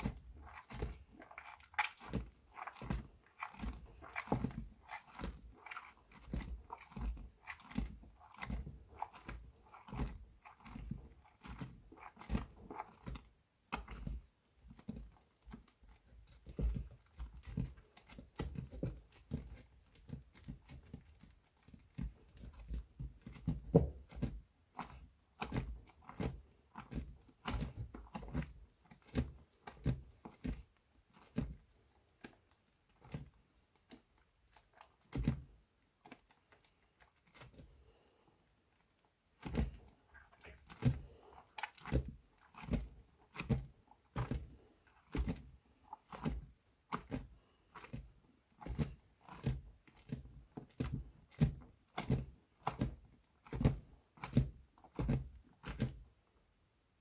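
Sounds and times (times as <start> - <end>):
wet squishing soap strokes: 0.0 - 57.0.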